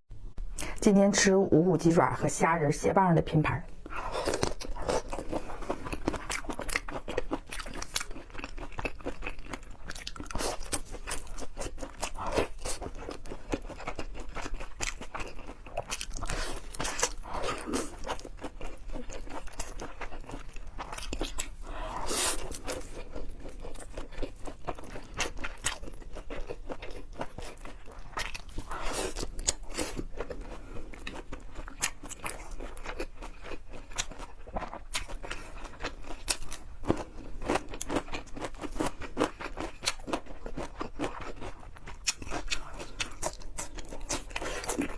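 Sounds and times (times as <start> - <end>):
chewing crunchy food: 3.8 - 44.9.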